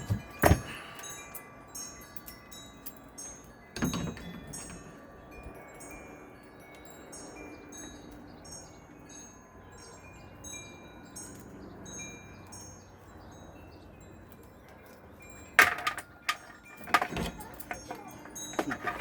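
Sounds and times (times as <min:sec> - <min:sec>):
faint steady background noise: 0:00.0 - 0:19.0
wind chimes ringing: 0:00.0 - 0:19.0.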